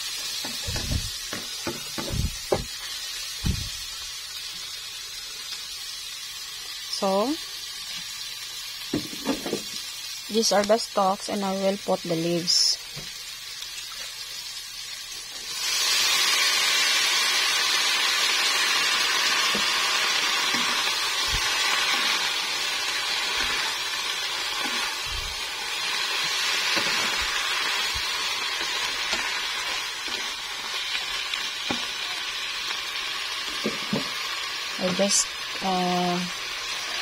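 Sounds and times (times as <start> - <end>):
leaves sizzling in a wok: 0.0 - 37.0.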